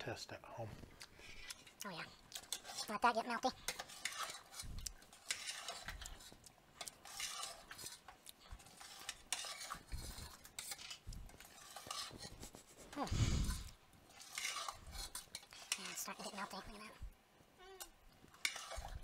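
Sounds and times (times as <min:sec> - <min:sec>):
spoon stirring thick soup: 0:00.8 - 0:17.2, 0:17.8 - 0:19.0
spoon scraping and knocking pot: 0:01.6 - 0:16.9, 0:17.8 - 0:19.0.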